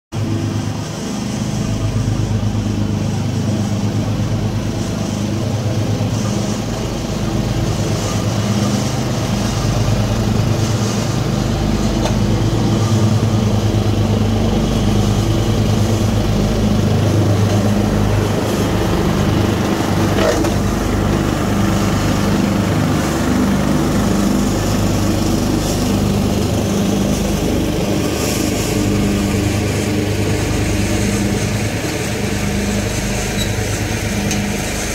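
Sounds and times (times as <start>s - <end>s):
small gasoline engines running: 0.2s - 34.9s.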